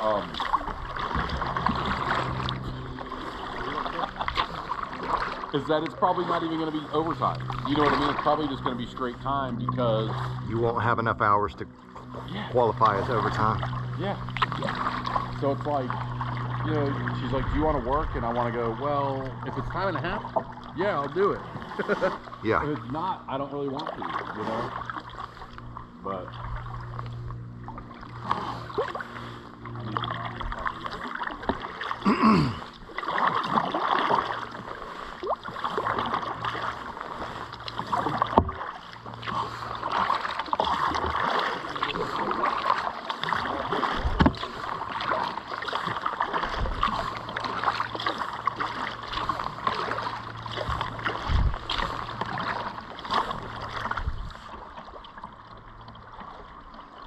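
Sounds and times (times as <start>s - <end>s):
paddle strokes splashing: 0.0s - 57.0s.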